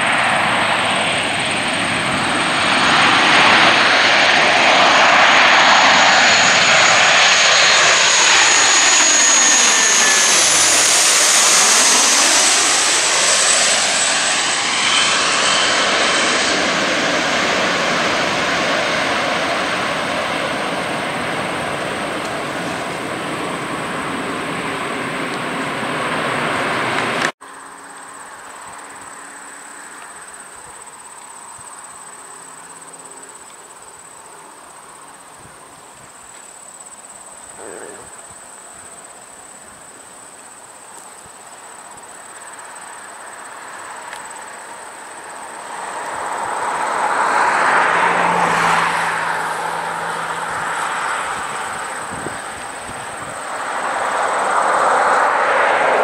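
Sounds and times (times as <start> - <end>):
turboprop plane droning: 0.0 - 31.0, 41.8 - 56.0
loud aircraft engine noise: 0.0 - 56.0.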